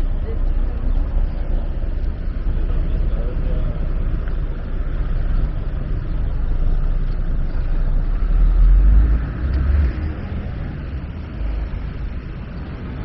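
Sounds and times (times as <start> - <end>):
low rumble of city noise: 0.0 - 13.0.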